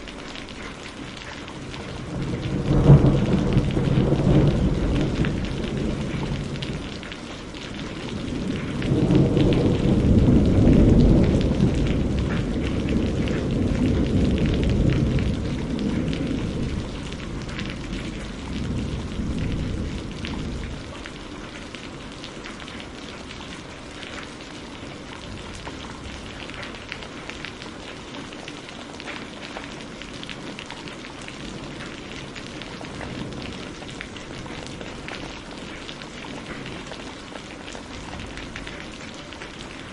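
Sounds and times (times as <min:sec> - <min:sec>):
steady rain: 0:00.0 - 0:39.9
thunder rumbling: 0:01.5 - 0:28.3, 0:31.1 - 0:39.9.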